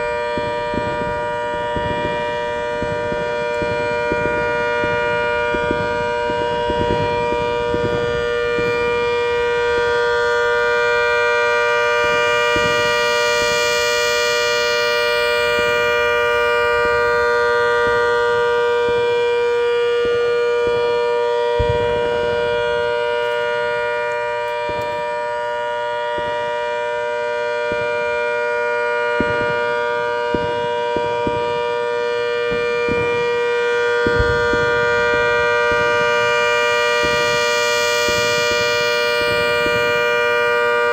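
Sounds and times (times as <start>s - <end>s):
rotating siren two-note tone: 0.0s - 40.9s.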